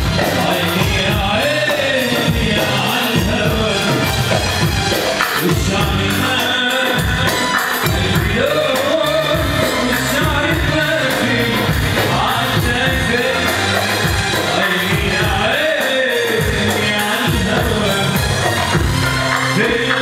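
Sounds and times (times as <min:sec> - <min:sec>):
man singing into a microphone: 0:00.0 - 0:04.8, 0:05.4 - 0:20.0
backing music with drum beat: 0:00.0 - 0:20.0.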